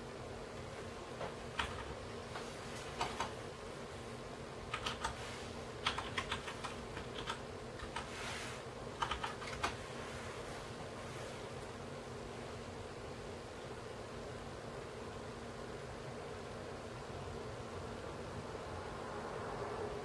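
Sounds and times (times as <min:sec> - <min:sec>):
faint hum: 0:00.0 - 0:20.0
steady hiss: 0:00.0 - 0:20.0.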